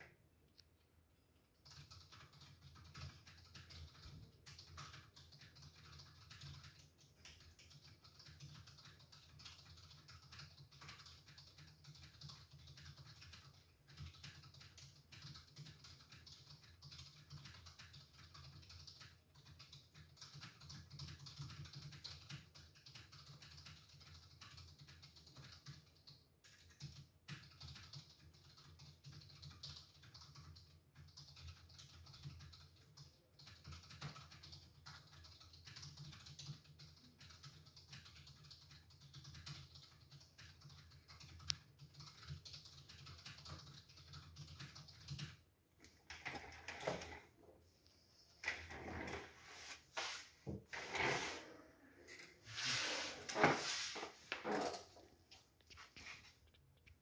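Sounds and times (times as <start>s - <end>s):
fast typing on keyboard: 1.4s - 47.4s.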